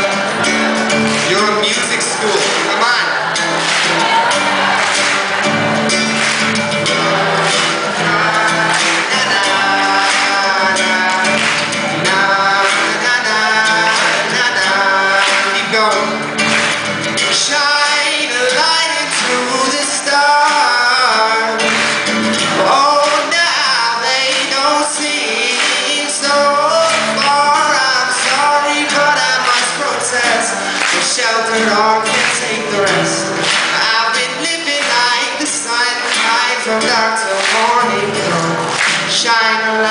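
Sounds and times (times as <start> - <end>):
instrumental accompaniment: 0.0 - 39.9
person singing: 0.0 - 39.9.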